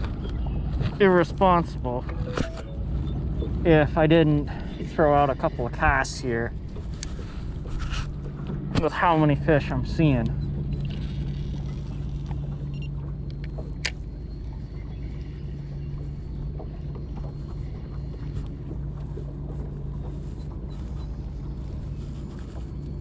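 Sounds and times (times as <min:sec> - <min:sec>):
boat motor humming: 0:00.0 - 0:23.0.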